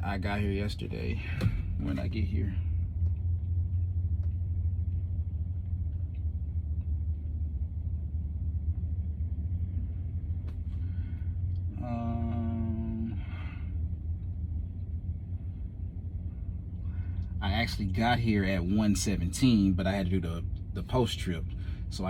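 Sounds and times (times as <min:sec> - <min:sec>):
steady tone: 0:00.0 - 0:22.0
truck engine idling: 0:00.0 - 0:22.0.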